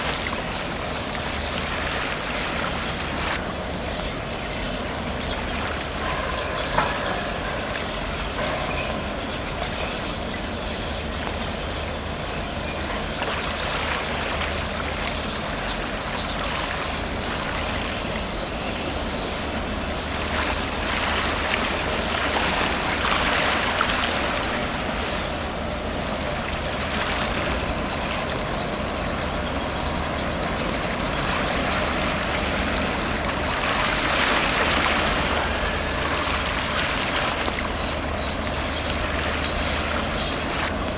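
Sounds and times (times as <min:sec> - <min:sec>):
low ship engine drone: 0:00.0 - 0:40.9
rushing water wash: 0:00.0 - 0:40.9.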